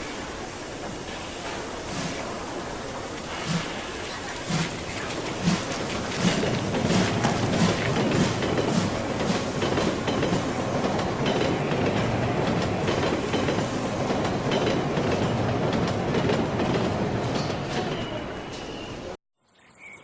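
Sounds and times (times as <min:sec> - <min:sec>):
train wheels rumbling: 0:00.0 - 0:19.2
clickety-clack over rail joints: 0:00.8 - 0:19.2.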